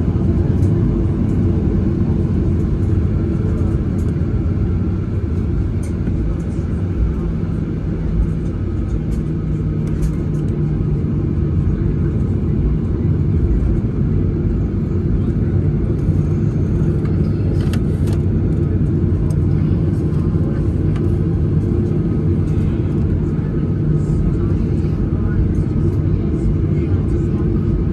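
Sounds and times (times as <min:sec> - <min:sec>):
jet engines rumbling in cabin: 0:00.0 - 0:27.9.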